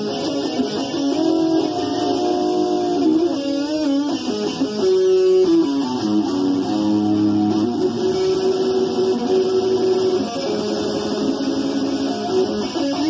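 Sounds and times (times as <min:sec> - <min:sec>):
plucked and strummed guitar: 0:00.0 - 0:13.0.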